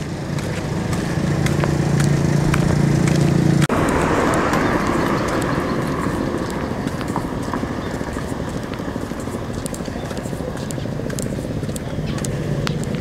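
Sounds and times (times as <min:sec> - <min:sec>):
even rushing noise: 0:00.0 - 0:13.0
footsteps on pavement: 0:00.0 - 0:13.0
steady engine hum: 0:00.0 - 0:13.0.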